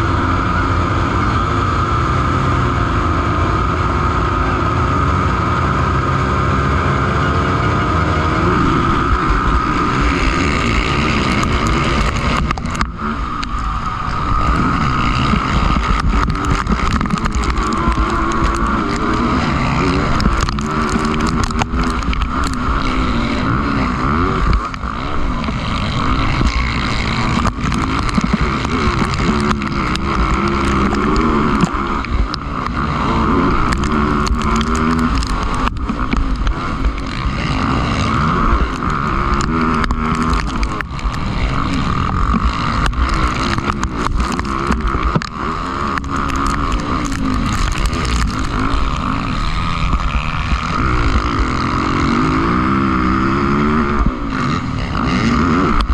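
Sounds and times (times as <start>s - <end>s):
high engine drone: 0.0s - 55.9s
motocross bike engines revving: 0.0s - 55.9s.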